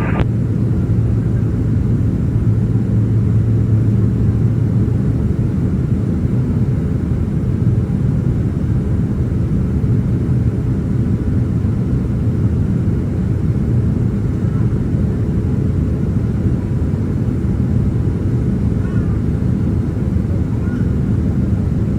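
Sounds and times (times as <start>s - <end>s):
airliner cabin engine rumble: 0.0s - 21.9s.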